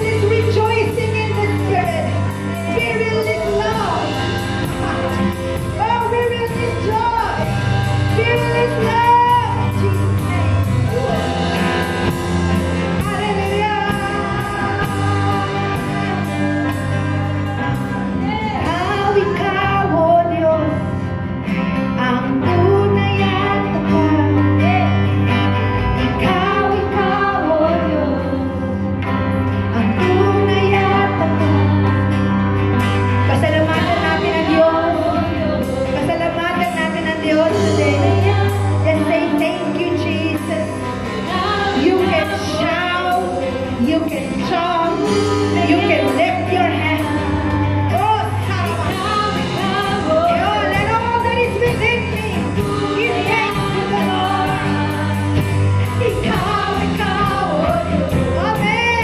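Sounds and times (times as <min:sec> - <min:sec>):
women singing worship song: 0:00.0 - 0:21.1, 0:21.8 - 0:59.0
live band playing: 0:00.0 - 0:59.0.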